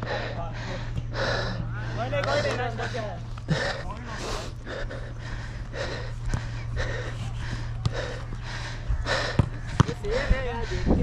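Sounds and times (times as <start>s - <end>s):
person panting heavily: 0.0s - 11.0s.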